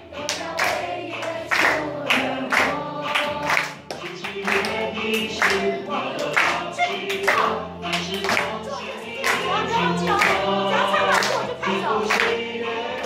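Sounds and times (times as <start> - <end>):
group singing a song: 0.0 - 13.0
hands clapping on the beat: 0.2 - 12.4.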